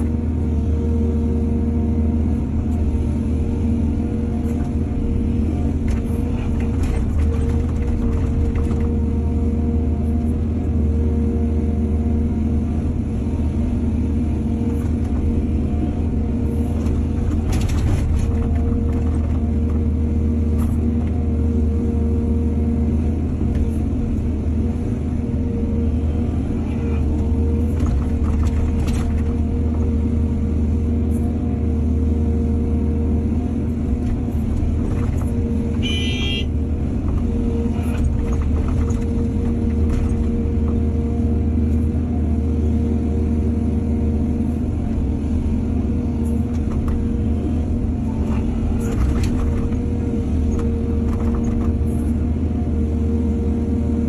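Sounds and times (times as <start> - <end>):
excavator diesel engine drone: 0.0 - 54.0.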